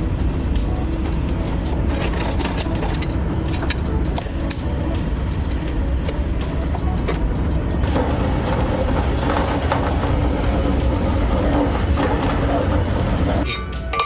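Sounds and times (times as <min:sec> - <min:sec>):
deep exhaust drone: 0:00.0 - 0:13.5
higher steady hum: 0:00.0 - 0:13.5.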